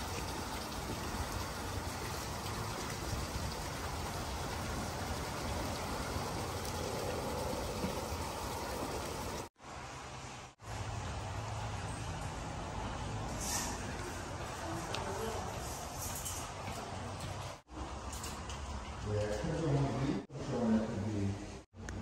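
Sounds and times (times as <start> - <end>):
water splashing and trickling: 0.0 - 19.8.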